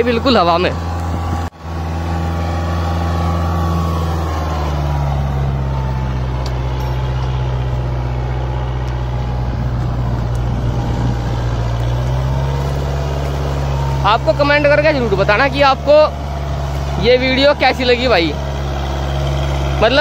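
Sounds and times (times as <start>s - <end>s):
tractor diesel engine labouring: 0.0s - 20.0s.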